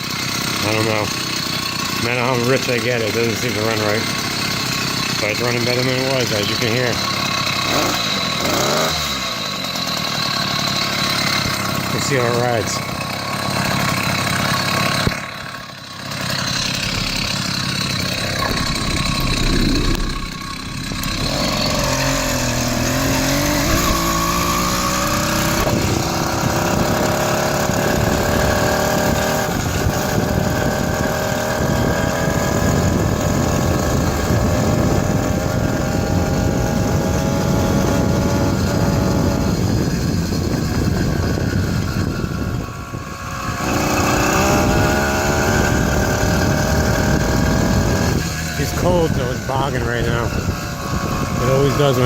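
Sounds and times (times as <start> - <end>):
two-stroke motorized bicycle engine: 0.0 - 52.0.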